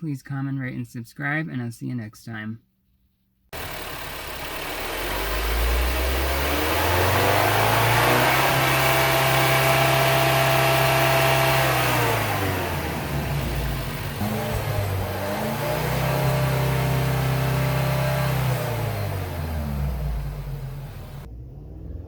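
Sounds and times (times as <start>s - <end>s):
car engine accelerating: 3.6s - 22.0s.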